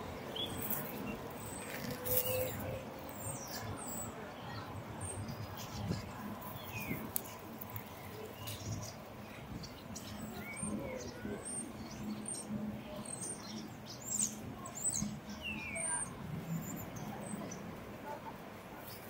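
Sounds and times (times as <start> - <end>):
low street background: 0.0 - 19.0
birds chirping and squeaking: 0.2 - 17.7.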